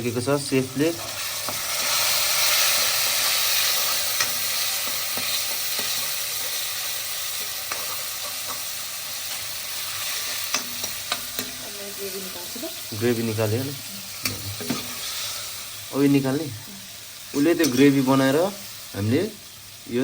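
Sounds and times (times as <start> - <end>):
gravy sizzling in a pan: 0.0 - 20.0.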